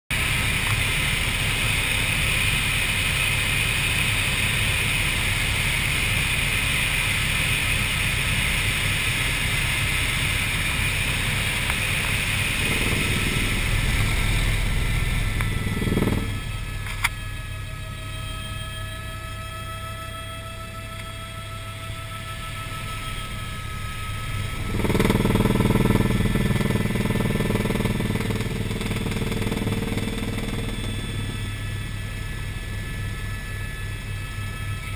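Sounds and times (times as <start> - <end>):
helicopter rotor and engine drone: 0.1 - 34.9
high turbine whine: 0.1 - 34.9.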